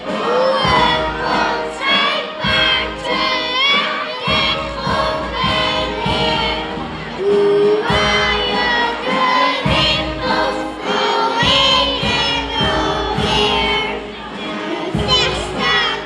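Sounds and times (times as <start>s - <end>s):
group singing over a beat: 0.0s - 16.0s.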